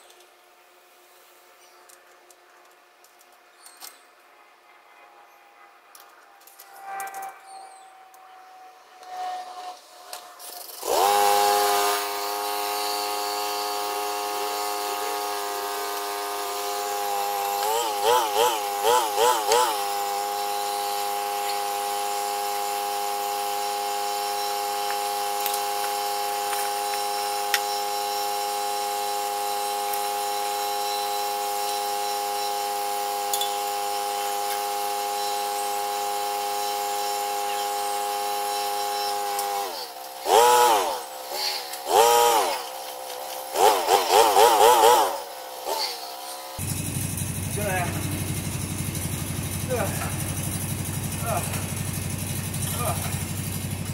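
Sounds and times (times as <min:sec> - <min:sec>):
machine running steadily: 0:10.4 - 0:53.9.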